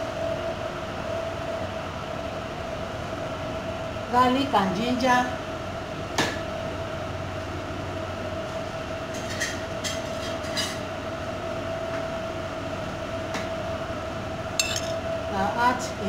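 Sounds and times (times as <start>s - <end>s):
machine hum with steady tone: 0.0s - 16.0s.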